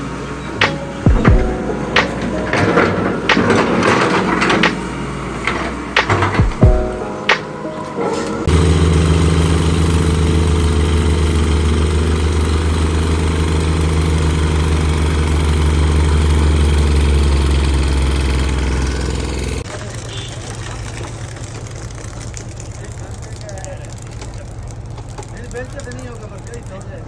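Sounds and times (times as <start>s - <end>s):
plate compactor engine running: 0.0s - 7.2s, 8.2s - 27.0s
concrete mixer rumble: 0.0s - 27.0s.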